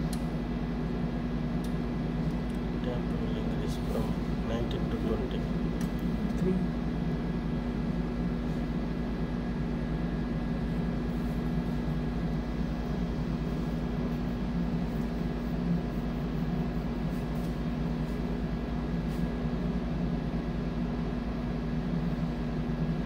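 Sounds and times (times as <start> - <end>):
electrical equipment hum: 0.0 - 23.0.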